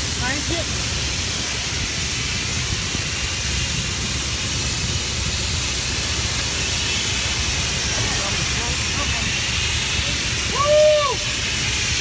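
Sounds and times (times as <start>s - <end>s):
boat motor hum: 0.0s - 12.0s
hiss of wind and water: 0.0s - 12.0s.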